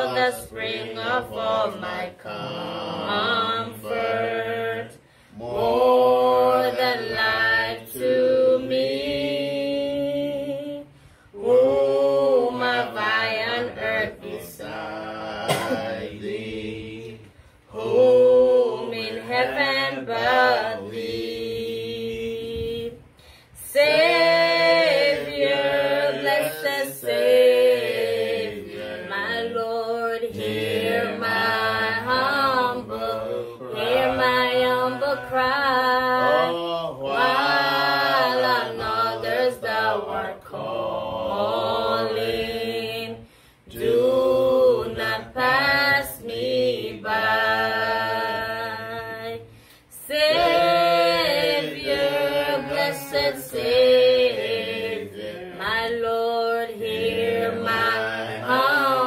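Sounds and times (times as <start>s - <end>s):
voices singing a slow hymn: 0.0s - 59.0s.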